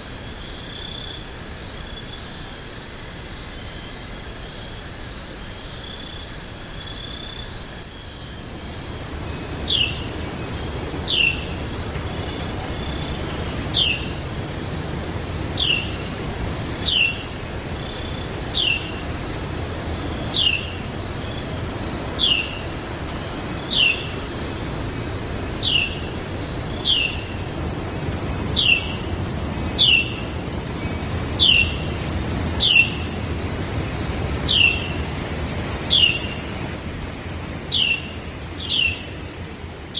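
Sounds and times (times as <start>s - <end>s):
high insect drone: 0.0s - 36.9s.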